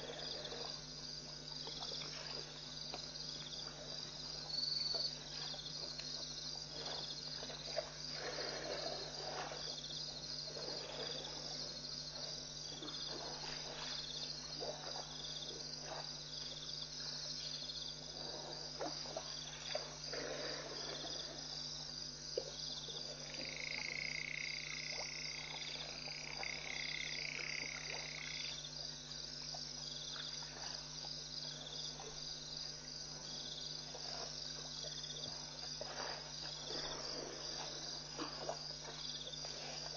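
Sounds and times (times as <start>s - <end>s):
elephants drinking and splashing: 0.0s - 28.5s, 29.6s - 39.9s
crickets chirping: 0.0s - 39.9s
low steady hum: 0.0s - 39.9s.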